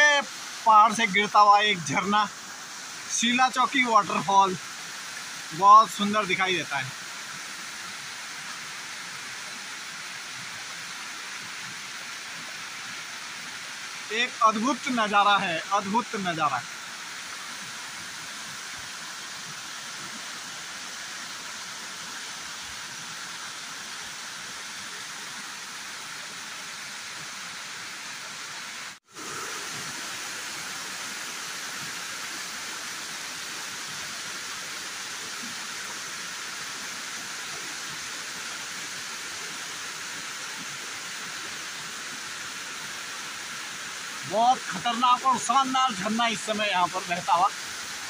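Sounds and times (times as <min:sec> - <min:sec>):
waterfall pouring over rocks: 0:00.0 - 0:48.0.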